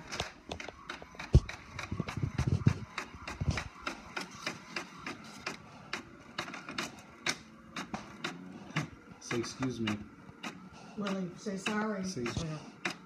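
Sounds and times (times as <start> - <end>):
inkjet printer clicking: 0.0 - 13.0.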